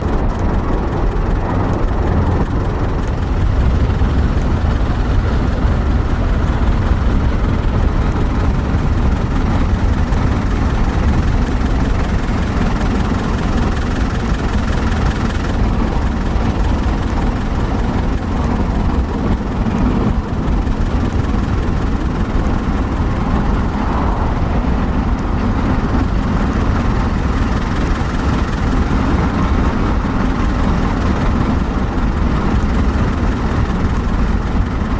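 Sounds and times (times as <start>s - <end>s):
low rumble of moving vehicles: 0.0s - 34.9s.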